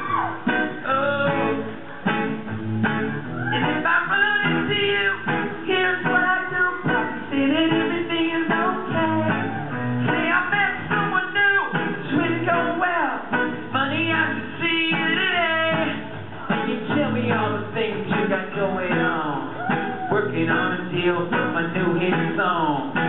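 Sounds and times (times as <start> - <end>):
strummed acoustic guitar: 0.4 - 23.0
man singing: 0.7 - 1.8, 3.6 - 23.0.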